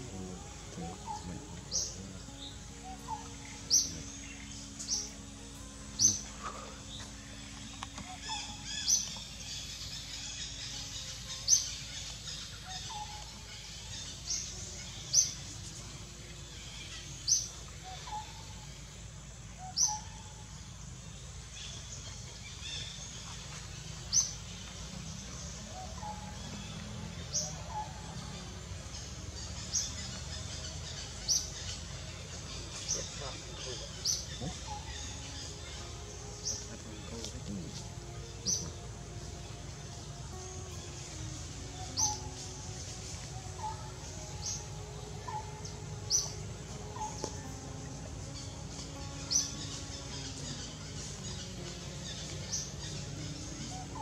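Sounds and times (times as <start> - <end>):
bird chirping: 0.0 - 54.0
faint outdoor background: 0.0 - 54.0.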